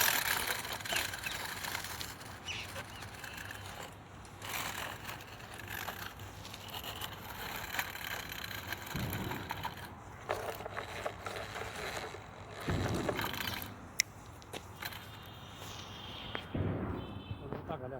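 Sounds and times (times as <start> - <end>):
toy car wheels crunching over dirt: 0.0 - 16.5.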